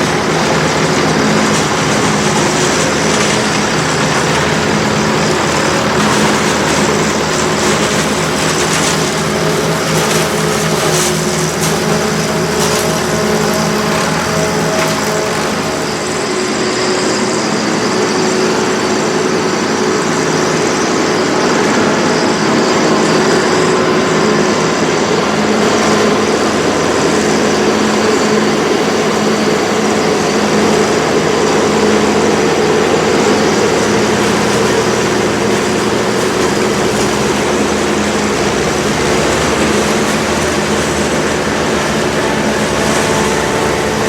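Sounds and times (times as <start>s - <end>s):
constant machine hum: 0.0s - 44.0s
tractor and forage harvester chopping: 0.0s - 44.0s.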